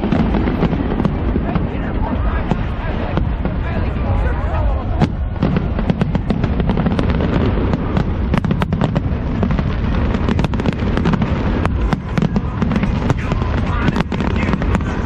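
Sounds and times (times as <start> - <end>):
fireworks bangs and crackles: 0.0 - 15.0
low rumble of booms: 0.0 - 15.0.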